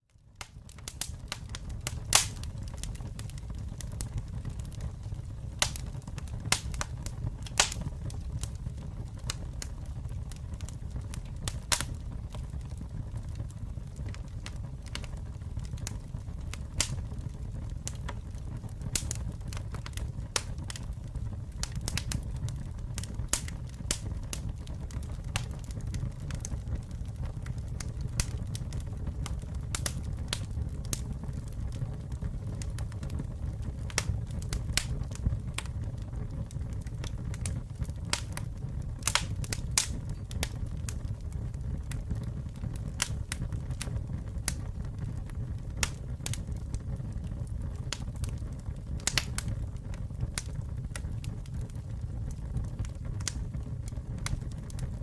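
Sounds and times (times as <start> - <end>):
burning wood crackling and popping: 0.0 - 55.0
campfire flames rumbling: 0.1 - 55.0.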